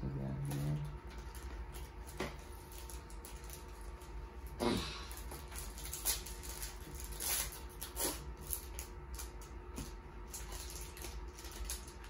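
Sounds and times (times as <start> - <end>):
foil wrapper crinkling: 0.5 - 12.0.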